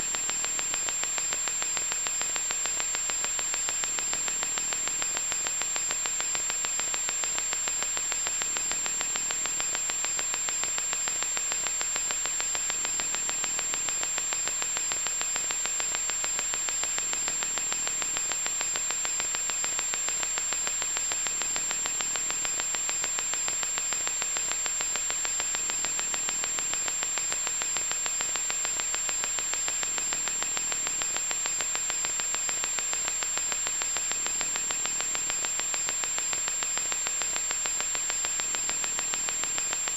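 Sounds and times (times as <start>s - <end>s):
electronic static hiss: 0.0s - 39.9s.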